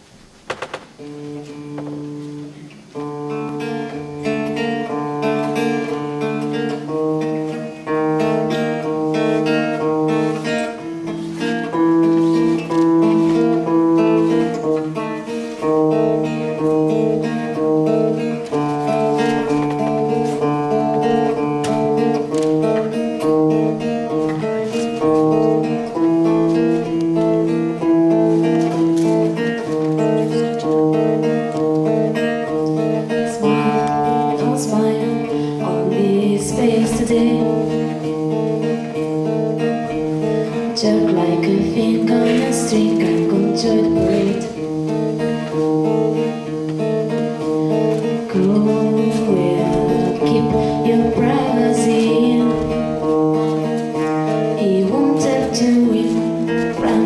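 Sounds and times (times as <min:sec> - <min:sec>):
acoustic guitar fingerpicking: 0:00.0 - 0:57.0.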